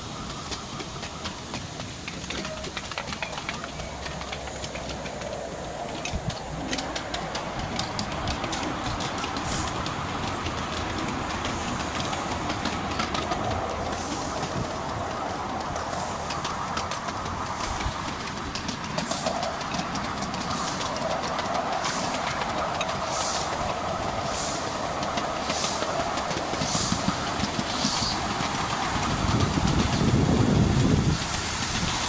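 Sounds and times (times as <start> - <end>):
steam locomotive passing rumble: 0.0 - 32.0
wheels clicking over rail joints: 0.0 - 32.0.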